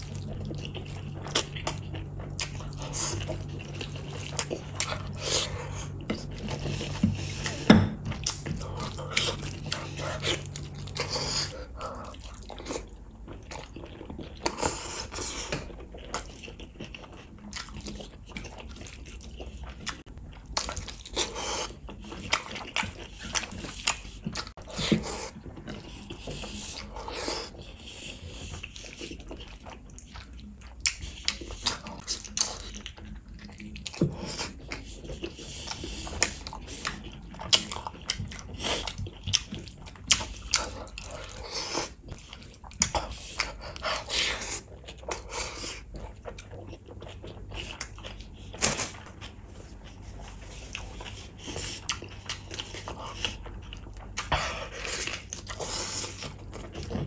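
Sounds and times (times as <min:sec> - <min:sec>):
low steady hum: 0:00.0 - 0:57.0
wet chewing and lip smacking: 0:00.0 - 0:57.0.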